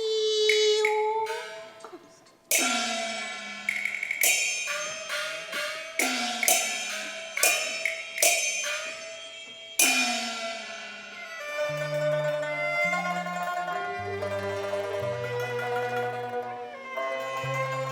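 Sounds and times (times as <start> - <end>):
gong and drum strokes: 0.5 - 17.9
sustained melodic instrument: 0.6 - 17.9.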